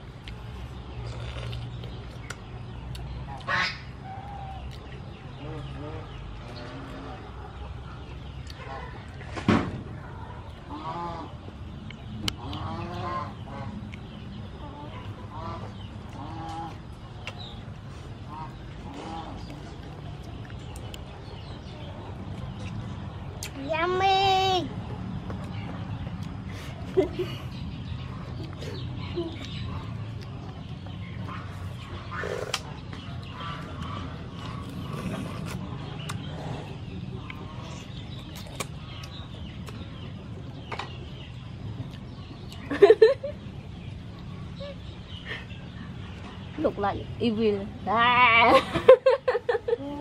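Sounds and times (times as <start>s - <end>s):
birds chirping: 0.0s - 50.0s
low outdoor rumble: 0.0s - 50.0s.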